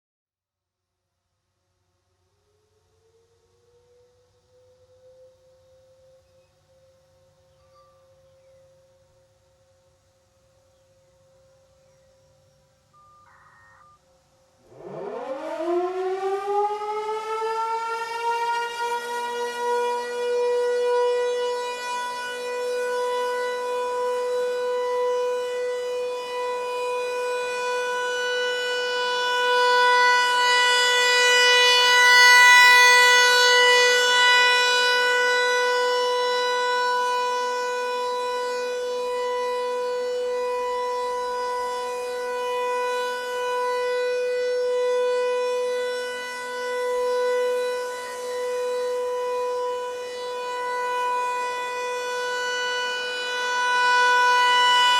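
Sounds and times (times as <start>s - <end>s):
rotating warning siren: 2.3s - 54.9s.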